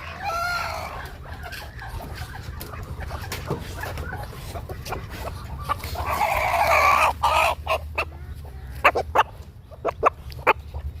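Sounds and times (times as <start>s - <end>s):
chicken squawking: 0.0s - 11.0s
chickens clucking: 0.0s - 11.0s.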